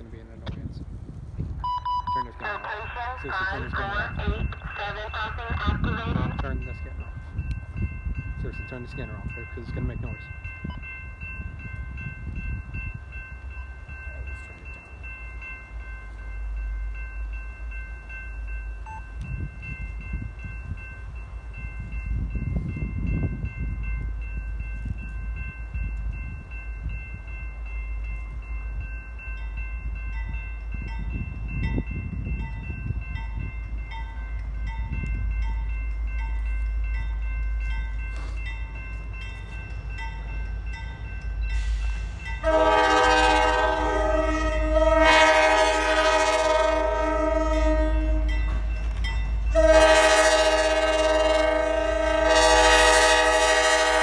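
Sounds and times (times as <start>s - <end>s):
diesel train rumble: 0.0s - 54.0s
crossing bells ringing: 1.6s - 54.0s.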